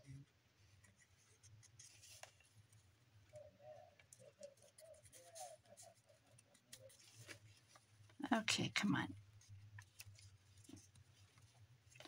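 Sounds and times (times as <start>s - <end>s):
paper rustling: 0.6s - 8.2s, 8.8s - 12.0s.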